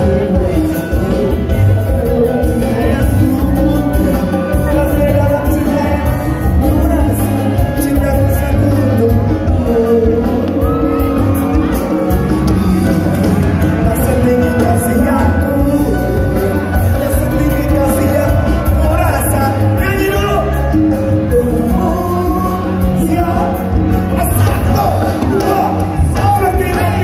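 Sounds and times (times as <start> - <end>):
loud live music: 0.0 - 27.0
person singing: 0.0 - 27.0.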